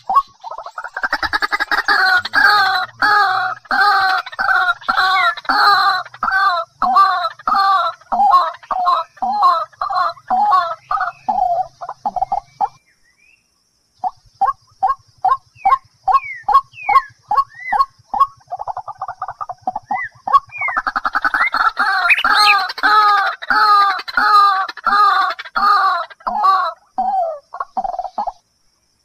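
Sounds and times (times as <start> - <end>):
game bird calling: 0.0 - 12.8, 14.8 - 28.4.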